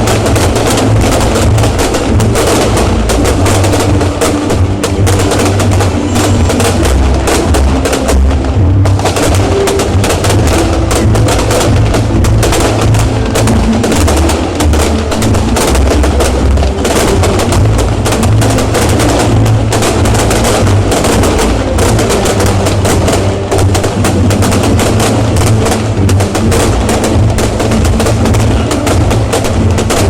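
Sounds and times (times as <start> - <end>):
continuous low rumble: 0.0 - 30.0
fireworks cracks and bangs: 0.0 - 30.0.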